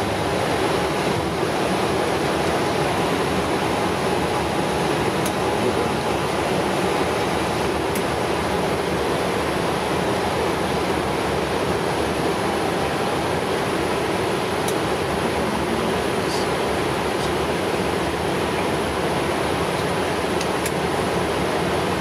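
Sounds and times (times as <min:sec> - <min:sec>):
airflow rush and engine noise: 0:00.0 - 0:22.0.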